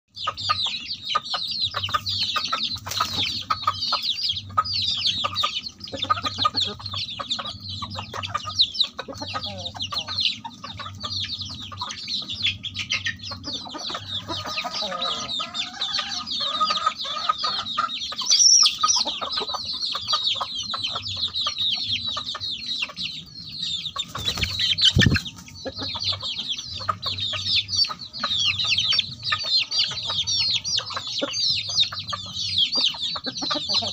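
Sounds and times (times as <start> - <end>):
chicks peeping: 0.1 - 33.9
hens clucking: 0.1 - 33.9.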